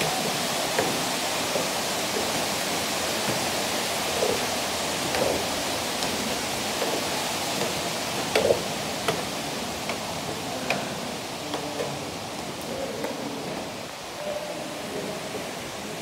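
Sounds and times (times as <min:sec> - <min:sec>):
footsteps on stairs: 0:00.0 - 0:13.4
steady rushing hiss: 0:00.0 - 0:16.0.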